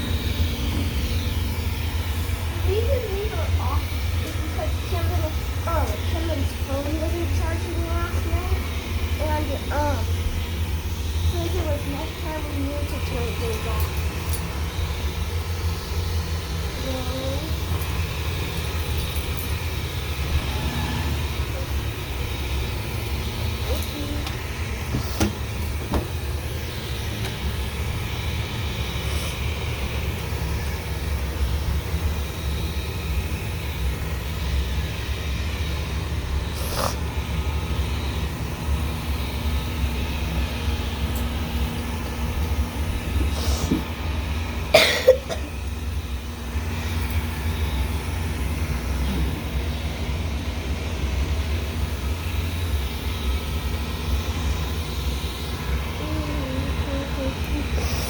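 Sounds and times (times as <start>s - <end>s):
robot vacuum motor hum: 0.0s - 58.0s.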